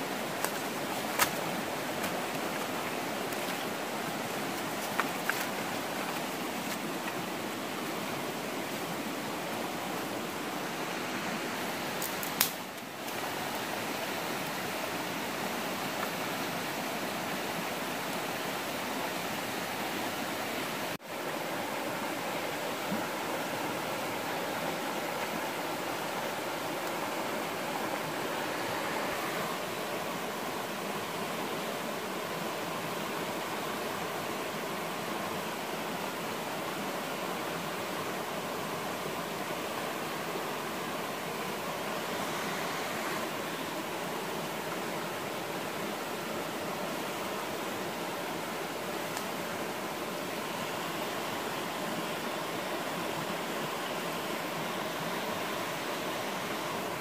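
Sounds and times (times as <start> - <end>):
river rushing over rocks: 0.0 - 57.0.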